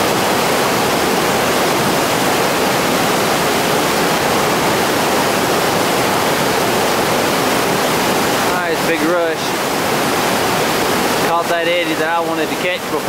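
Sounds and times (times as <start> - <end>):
whitewater rapids rushing: 0.0 - 13.0.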